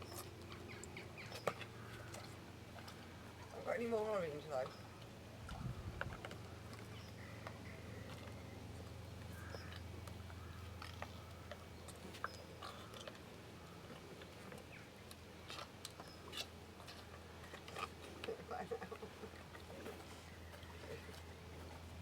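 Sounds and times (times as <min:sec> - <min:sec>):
horse chewing: 0:00.0 - 0:22.0
steady low hum: 0:00.0 - 0:22.0.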